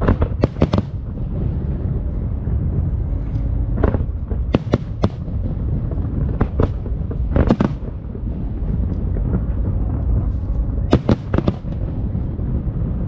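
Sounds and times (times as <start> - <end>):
fireworks bangs: 0.0 - 2.1, 3.7 - 13.0
steady low rumble: 0.0 - 13.0.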